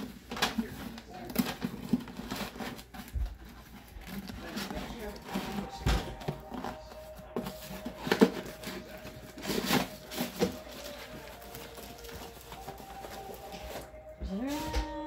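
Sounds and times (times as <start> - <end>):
cardboard scraping and rustling: 0.0 - 15.0.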